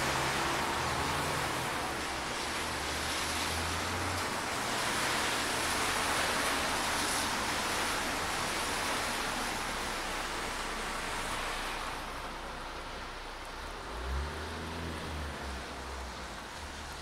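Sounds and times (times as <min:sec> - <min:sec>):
heavy rain on road: 0:00.0 - 0:17.0
vehicle engine humming: 0:00.0 - 0:17.0.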